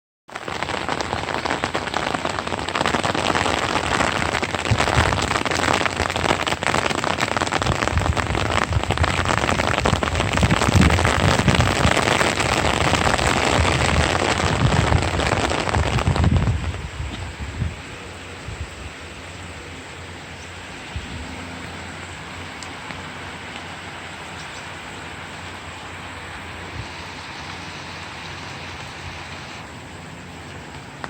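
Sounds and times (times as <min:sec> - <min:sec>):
rain falling: 0:00.3 - 0:31.0.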